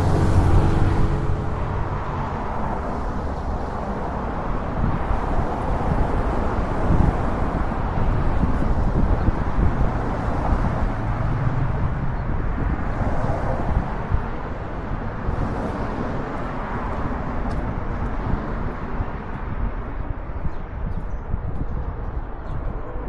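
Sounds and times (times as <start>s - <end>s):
cars driving past: 0.0s - 20.9s.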